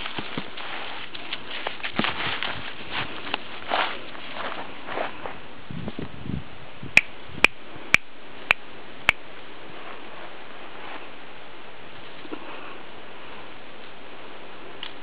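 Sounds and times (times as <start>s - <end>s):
rustling in dry grass: 0.0s - 6.7s, 7.6s - 15.0s.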